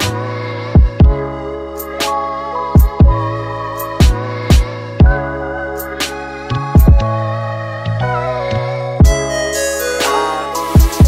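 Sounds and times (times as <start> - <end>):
sustained music chords: 0.0 - 11.0.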